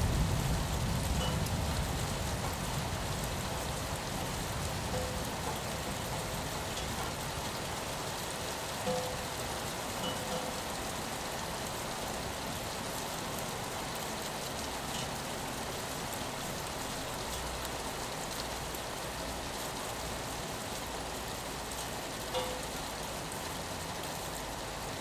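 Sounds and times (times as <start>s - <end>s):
rain falling on a window: 0.0s - 25.0s.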